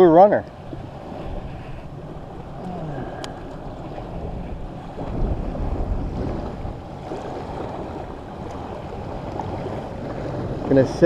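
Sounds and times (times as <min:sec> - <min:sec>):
water: 0:00.0 - 0:11.0
wind buffeting microphone: 0:00.0 - 0:11.0.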